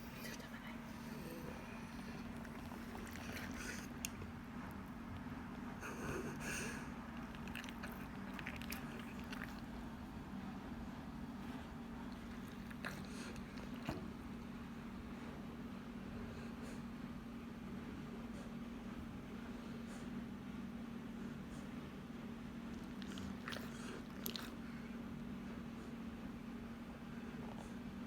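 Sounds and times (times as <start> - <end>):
dog breathing and snoring: 0.0 - 17.2, 17.9 - 28.0
steady low hum: 0.0 - 28.0.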